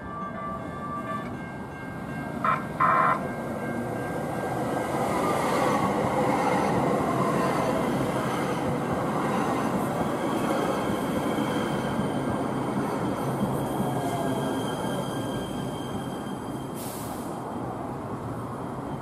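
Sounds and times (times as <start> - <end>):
light rail train passing: 0.0 - 19.0.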